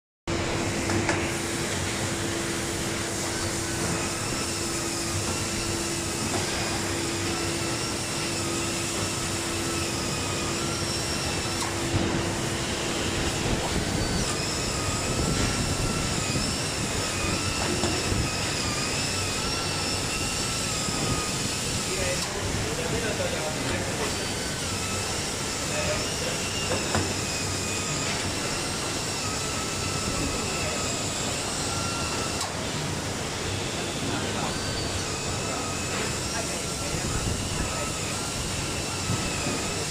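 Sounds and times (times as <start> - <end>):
machine with high wavering whine: 0.3 - 39.9.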